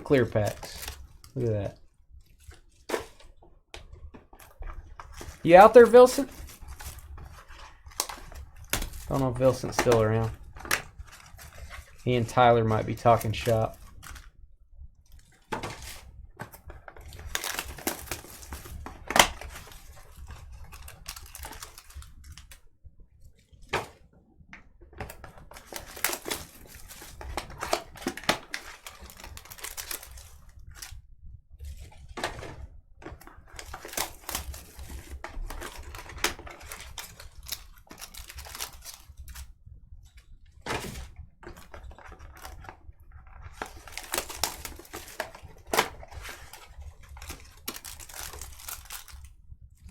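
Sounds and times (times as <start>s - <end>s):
plastic wrap and cardboard rustling: 0.0s - 49.9s.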